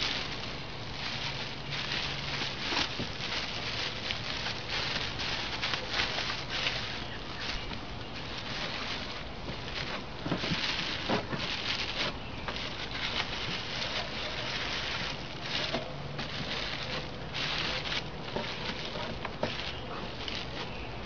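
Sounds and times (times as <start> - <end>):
bubble wrap rustling and crinkling: 0.0 - 21.0.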